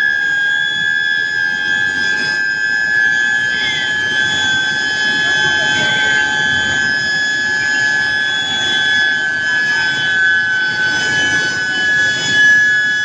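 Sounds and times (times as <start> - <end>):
high-pitched induction whine: 0.0 - 13.0.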